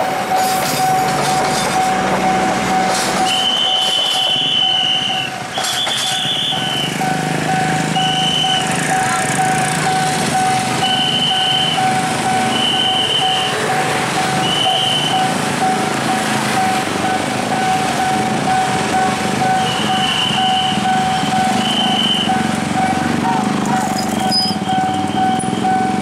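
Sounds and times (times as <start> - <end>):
high tone: 0.0 - 26.0
railroad crossing bell ringing: 0.0 - 26.0
train rumbling on rails: 0.0 - 26.0.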